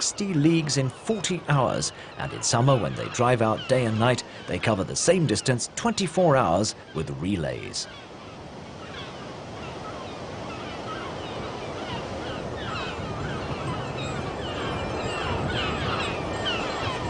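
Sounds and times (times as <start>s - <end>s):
sea surf: 0.0s - 17.0s.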